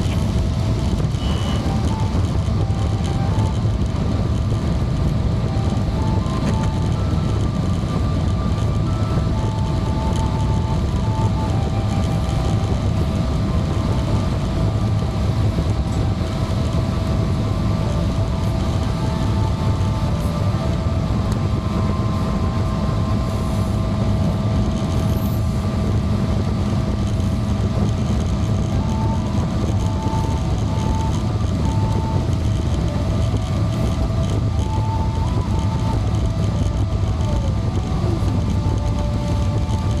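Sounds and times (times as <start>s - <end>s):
airplane cabin drone: 0.0s - 40.0s
faint steady whines: 0.0s - 40.0s.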